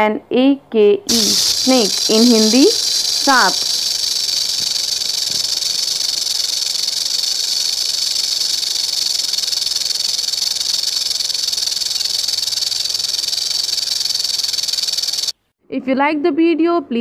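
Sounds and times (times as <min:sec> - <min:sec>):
snake hissing: 0:01.1 - 0:15.3.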